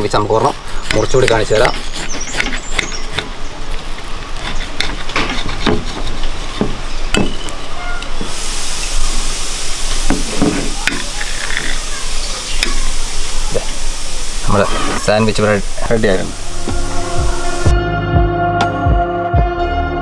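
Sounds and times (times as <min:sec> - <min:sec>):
steady hiss: 0:00.0 - 0:17.8.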